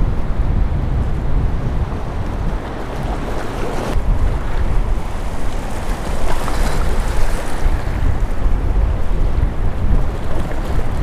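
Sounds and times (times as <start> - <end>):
wind buffeting microphone: 0.0 - 11.0
waves splashing against wall: 1.0 - 11.0.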